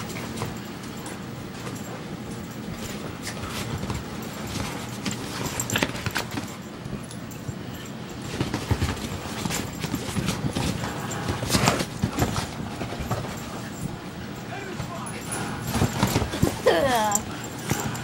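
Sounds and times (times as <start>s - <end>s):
dogs scuffling: 0.0s - 18.0s.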